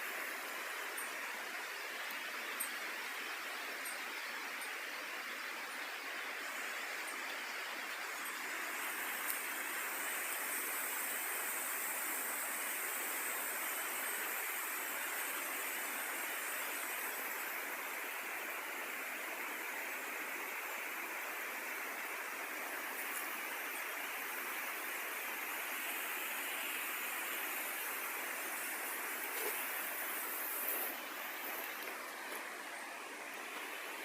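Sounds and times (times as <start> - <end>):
steady rushing hiss: 0.0 - 34.0.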